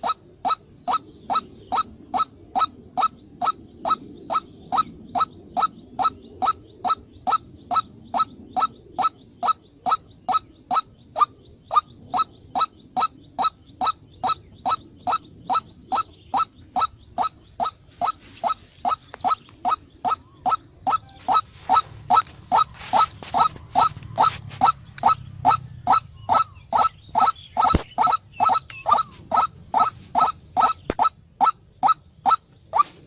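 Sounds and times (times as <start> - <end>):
bird call sharp notes: 0.0 - 33.0.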